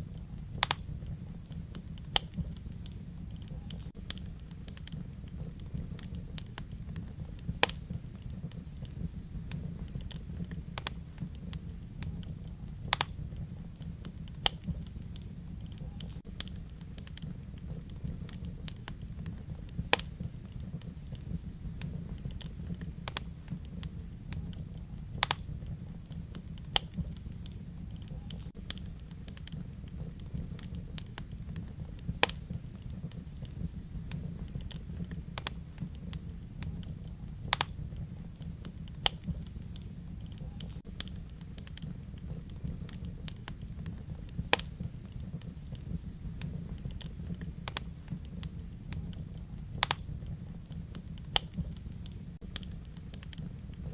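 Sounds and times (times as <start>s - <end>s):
fire pops: 0.0s - 53.9s
wood fire crackling: 0.0s - 53.9s.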